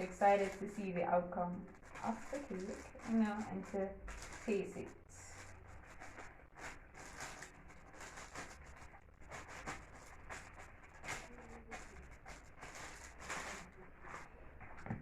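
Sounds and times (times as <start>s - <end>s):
packaging rustling: 1.6s - 14.8s.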